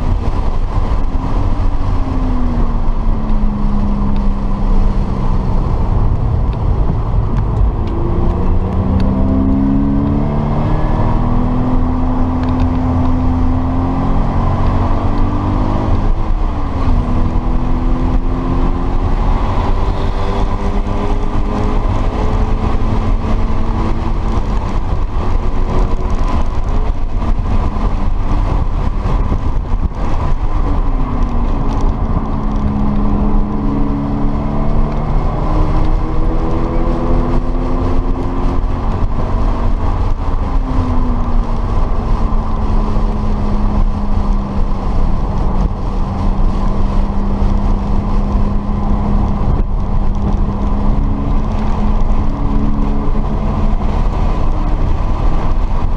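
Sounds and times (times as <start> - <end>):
car engine revving: 0.0 - 55.9
low road rumble: 0.0 - 55.9.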